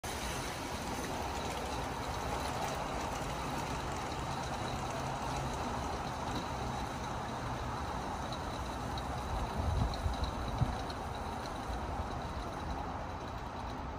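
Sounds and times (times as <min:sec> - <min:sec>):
model train rolling on track: 0:00.0 - 0:13.9.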